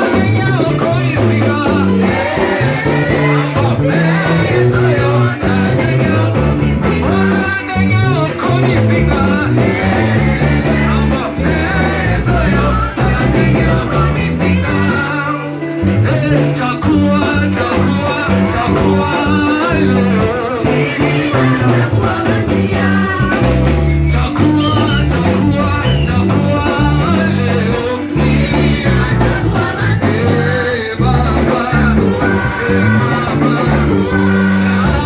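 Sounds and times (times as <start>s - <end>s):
bass line: 0.0s - 35.0s
guitar: 0.0s - 35.0s
person singing: 0.0s - 35.0s.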